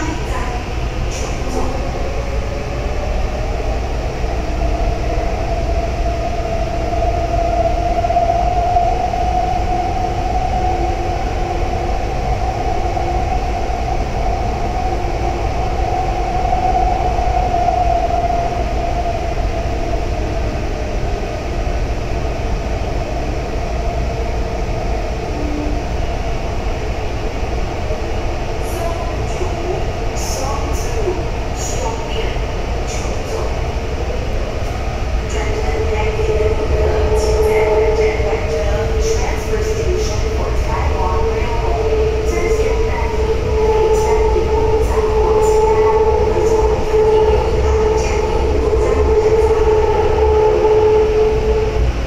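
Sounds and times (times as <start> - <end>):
train wheels rumbling: 0.0 - 52.0.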